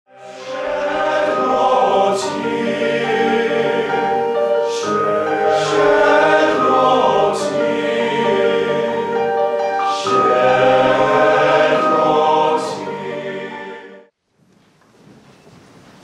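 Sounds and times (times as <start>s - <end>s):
men's vocal ensemble singing: 0.1s - 14.1s.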